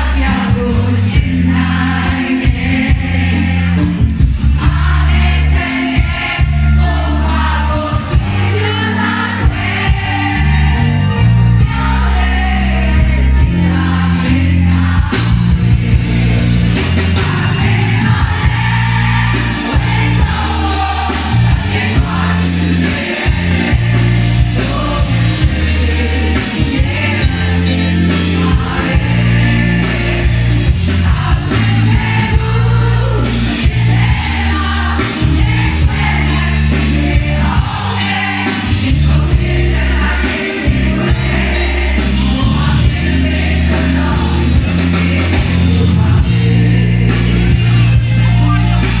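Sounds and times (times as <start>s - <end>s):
backing singers: 0.0s - 49.0s
bass: 0.0s - 49.0s
drum kit: 0.0s - 49.0s
keyboard: 0.0s - 49.0s
woman singing lead: 0.0s - 49.0s.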